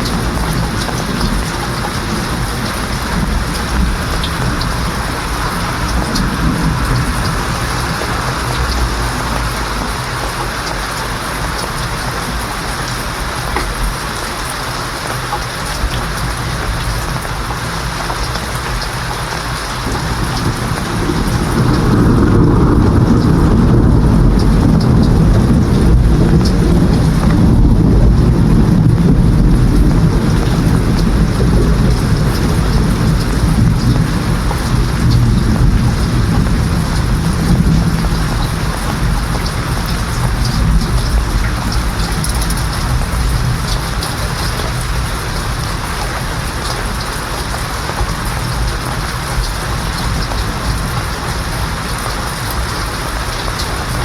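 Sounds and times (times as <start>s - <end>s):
rolling thunder rumble: 0.0s - 54.0s
steady rain: 0.0s - 54.0s.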